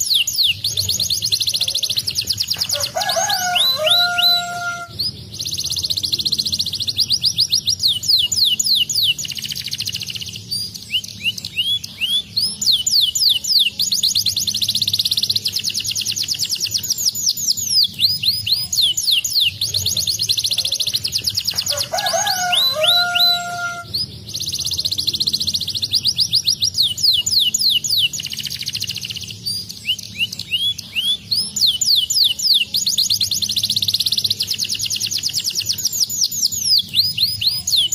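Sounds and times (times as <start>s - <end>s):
canary singing trills: 0.0s - 37.9s.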